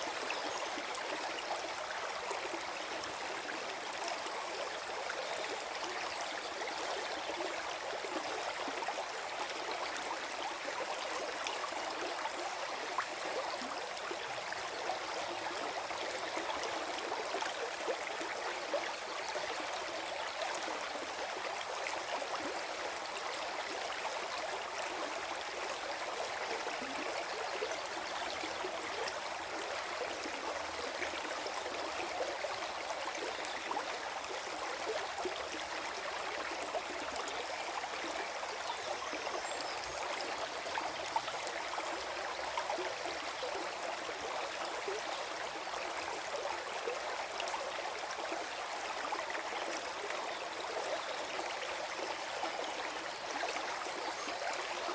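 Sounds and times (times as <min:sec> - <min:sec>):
stream babbling over stones: 0:00.0 - 0:54.9.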